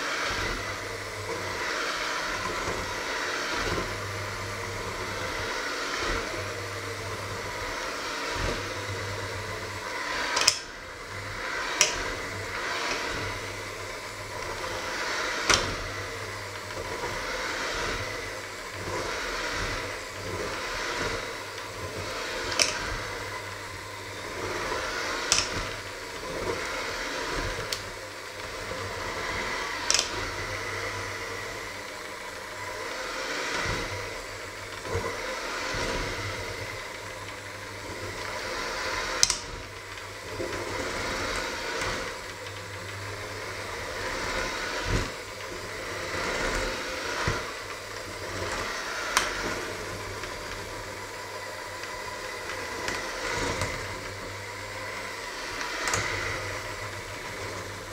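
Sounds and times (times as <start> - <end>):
electric hand mixer running: 0.0 - 57.9.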